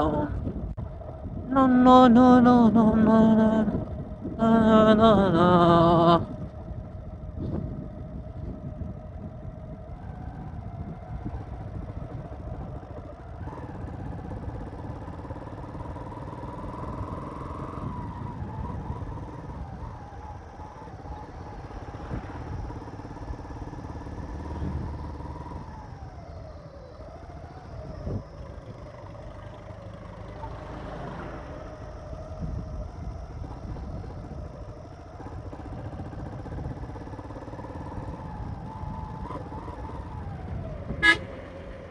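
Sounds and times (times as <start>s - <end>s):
motorcycle engine revving: 0.0s - 41.9s
wind and road noise: 0.0s - 41.9s.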